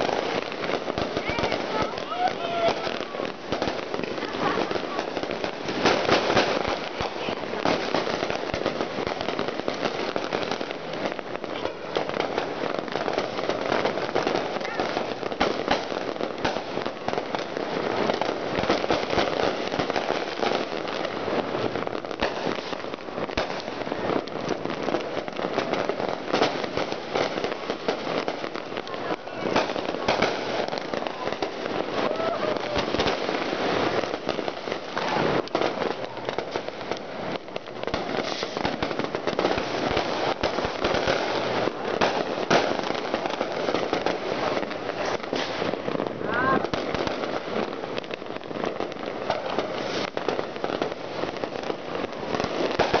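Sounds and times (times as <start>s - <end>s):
fireworks and firecrackers crackling: 0.0s - 53.0s.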